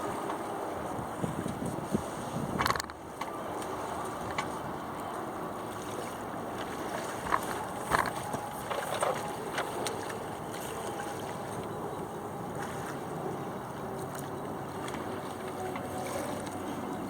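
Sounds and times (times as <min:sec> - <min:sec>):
water rushing: 0:00.0 - 0:17.0
wind: 0:00.0 - 0:17.0.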